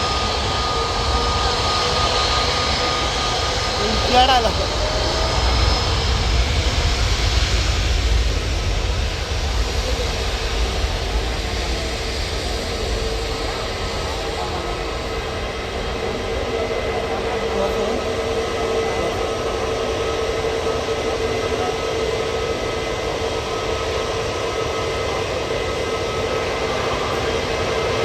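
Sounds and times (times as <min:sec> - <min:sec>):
jet engines at takeoff thrust: 0:00.0 - 0:28.0.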